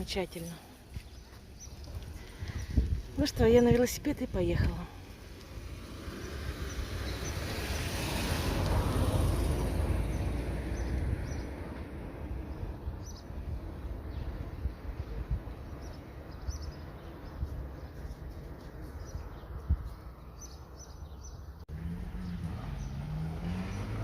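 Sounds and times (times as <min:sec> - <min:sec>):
birds chirping: 0:00.0 - 0:08.1, 0:10.0 - 0:11.7, 0:12.5 - 0:24.0
wind rumbling on microphone: 0:00.9 - 0:21.5.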